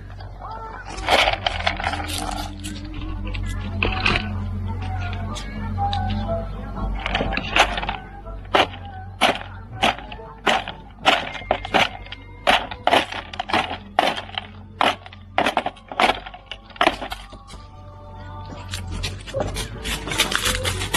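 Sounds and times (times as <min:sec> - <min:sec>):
ostriches pecking at feed: 0:00.0 - 0:20.9.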